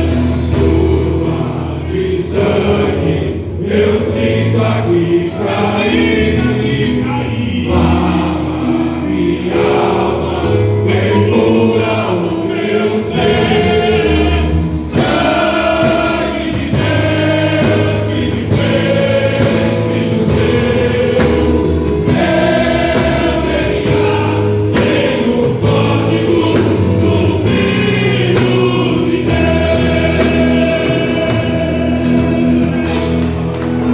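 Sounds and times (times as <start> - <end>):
low accompaniment: 0.0 - 33.9
men's choir singing a hymn: 0.0 - 33.9.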